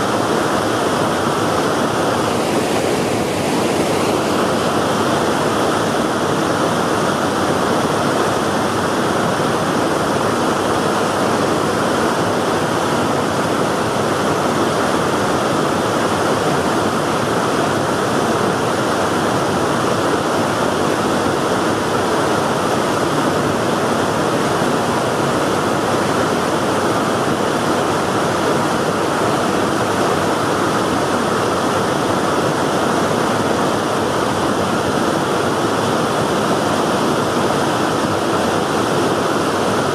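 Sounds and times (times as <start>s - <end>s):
river water roaring through weir: 0.0s - 39.9s.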